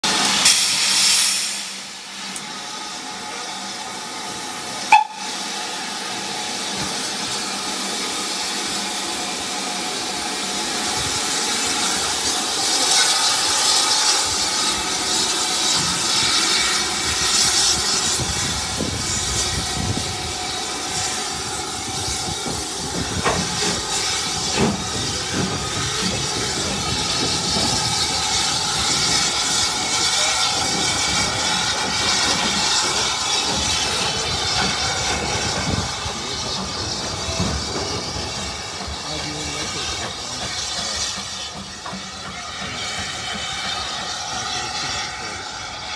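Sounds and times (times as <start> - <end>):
steam hissing: 0.0 - 45.9
steam locomotive rumble: 0.0 - 45.9.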